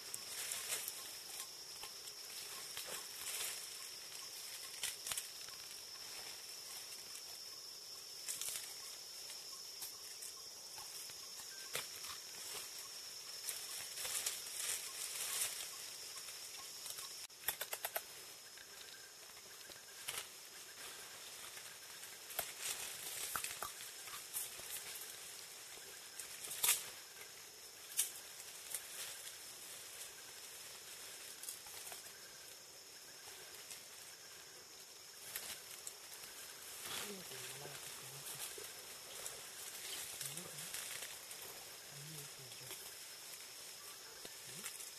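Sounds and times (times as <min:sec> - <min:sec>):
high forest hiss: 0:00.0 - 0:44.9
leaves rustling: 0:00.0 - 0:44.9.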